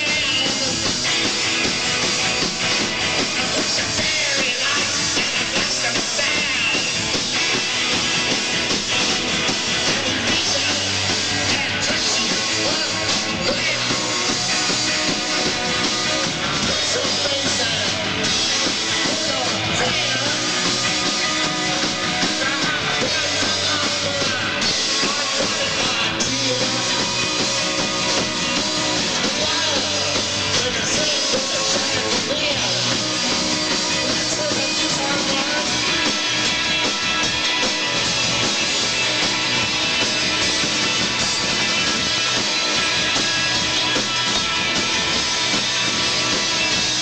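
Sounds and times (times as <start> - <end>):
rock band playing live: 0.0 - 47.0.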